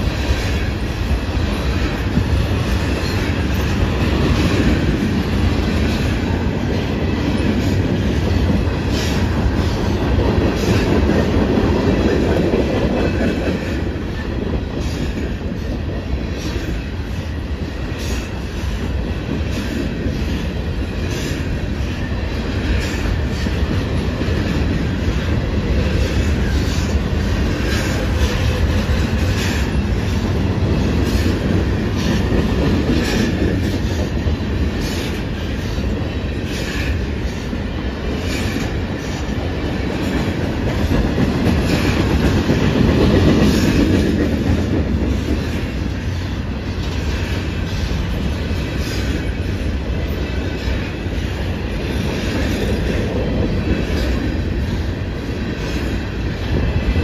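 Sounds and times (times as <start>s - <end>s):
freight train rumbling past: 0.0s - 57.0s
train wheels clicking and clacking: 0.0s - 57.0s.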